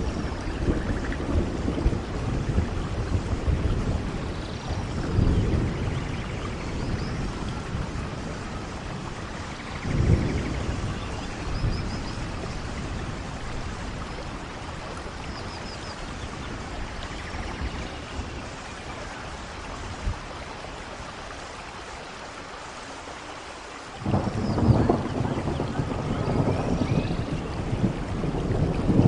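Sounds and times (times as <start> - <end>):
thunder rumbling: 0.0 - 21.1, 24.0 - 29.0
heavy rain: 0.0 - 29.0.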